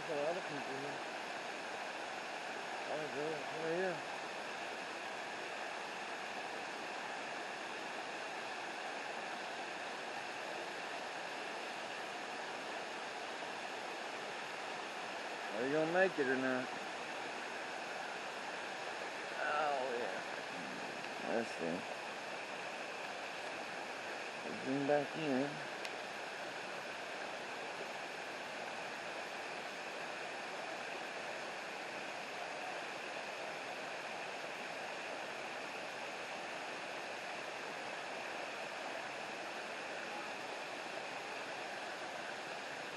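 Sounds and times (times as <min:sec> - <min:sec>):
creek water flowing: 0:00.0 - 0:42.9.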